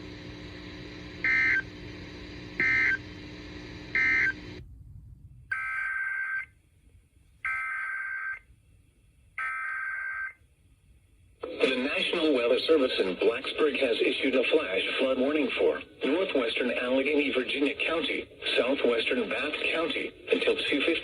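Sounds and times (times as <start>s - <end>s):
receiver hum: 0.0s - 21.0s.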